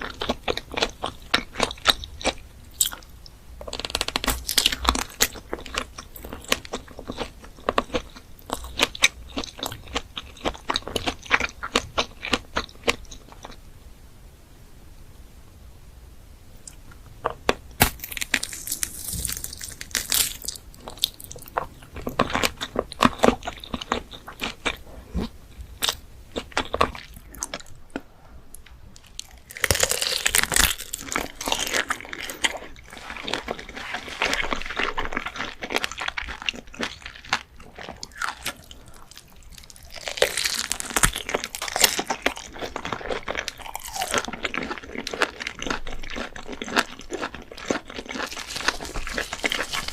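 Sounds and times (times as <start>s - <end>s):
chewing and crunching: 0.0s - 13.6s, 16.7s - 49.9s.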